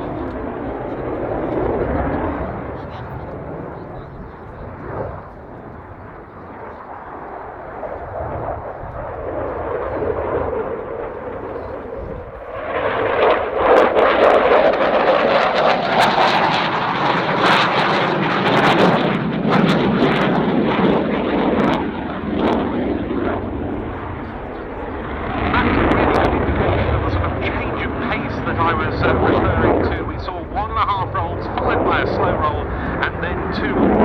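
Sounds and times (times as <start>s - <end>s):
jet engine roar with crackling: 0.0s - 34.0s.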